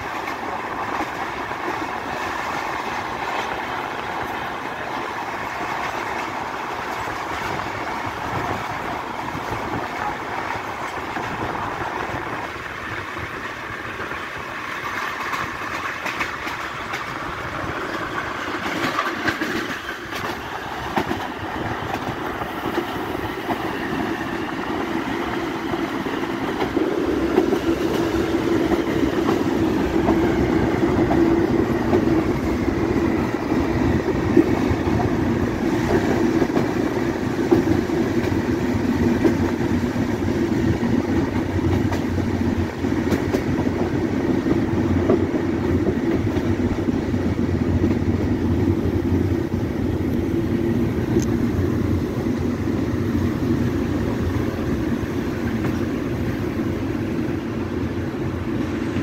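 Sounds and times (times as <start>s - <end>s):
train wheels on rails: 0.0s - 59.0s
wind: 0.0s - 59.0s.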